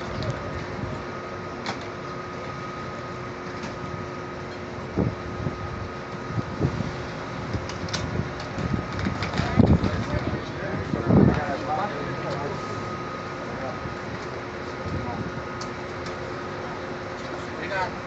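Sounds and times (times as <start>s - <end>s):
bus engine humming: 0.0s - 18.0s
faint steady whine: 0.0s - 18.0s.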